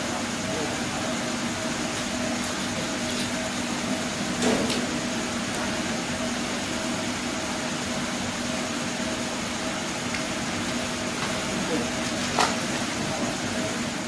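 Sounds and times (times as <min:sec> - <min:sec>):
machine hum with steady tones: 0:00.0 - 0:14.0.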